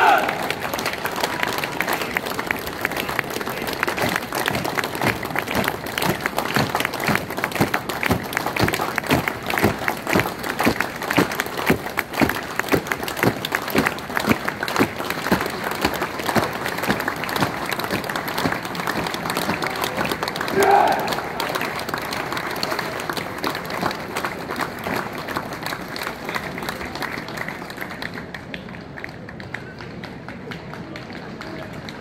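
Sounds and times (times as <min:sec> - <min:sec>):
soldiers marching on stone: 0:00.0 - 0:27.2
crowd applauding: 0:00.0 - 0:32.0.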